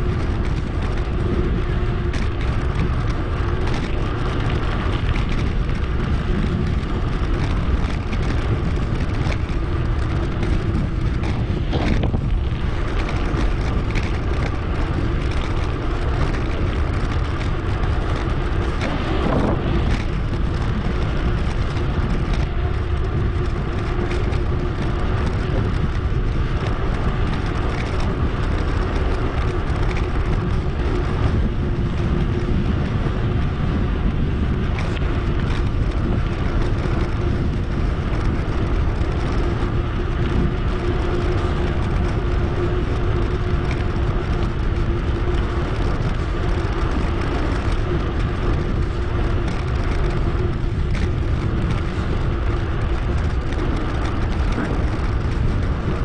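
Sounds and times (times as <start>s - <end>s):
bicycle tyre and road noise: 0.0s - 56.0s
wind rush on microphone: 0.0s - 56.0s.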